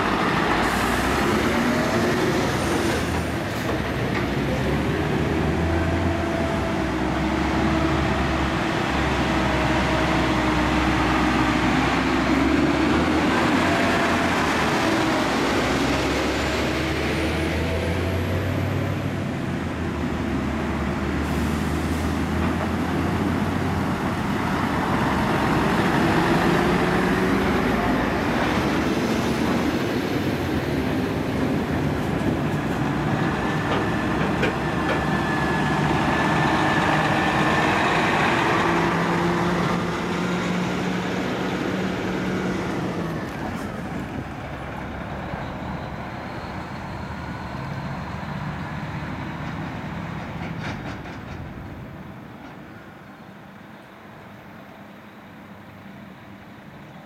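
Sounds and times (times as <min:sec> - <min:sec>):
diesel trucks driving past: 0:00.0 - 0:57.0
tyres rolling on road: 0:00.0 - 0:57.0.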